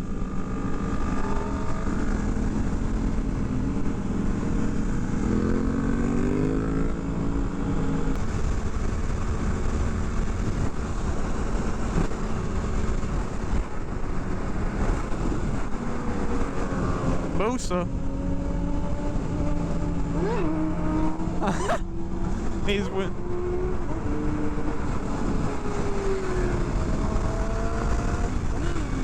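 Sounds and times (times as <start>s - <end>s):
motorcycle engine revving: 0.0s - 29.0s
motorcycle engines running: 0.0s - 29.0s
wind rushing over microphone: 0.0s - 29.0s.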